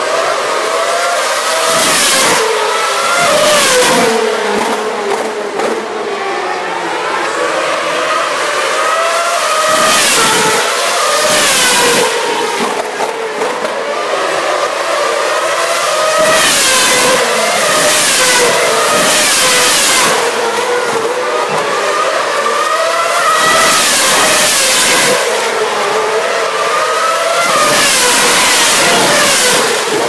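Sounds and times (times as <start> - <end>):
distant racing engines: 0.0 - 30.0
racing cars passing: 0.0 - 30.0.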